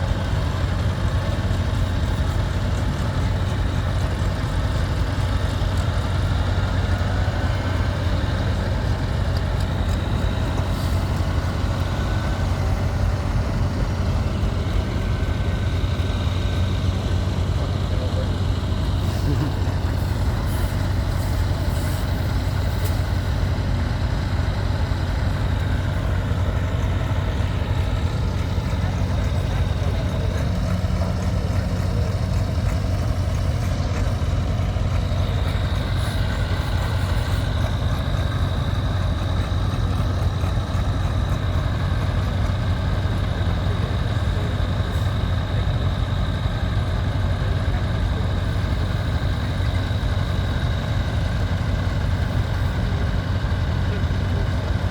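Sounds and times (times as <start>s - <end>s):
heavy engine idling: 0.0s - 54.9s.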